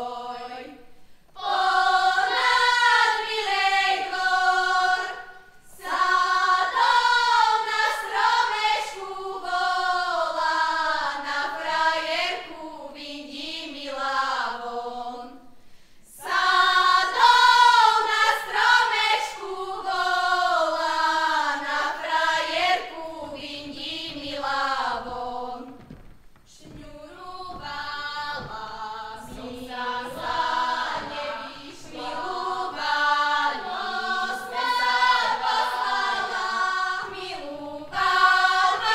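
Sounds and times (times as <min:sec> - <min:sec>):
women's folk choir singing: 0:00.0 - 0:38.9.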